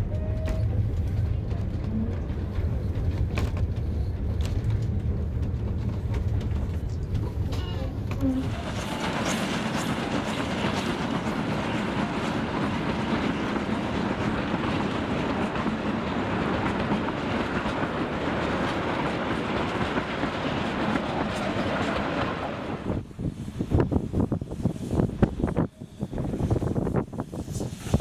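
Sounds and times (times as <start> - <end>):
train coaches rolling on rails: 0.0 - 28.0.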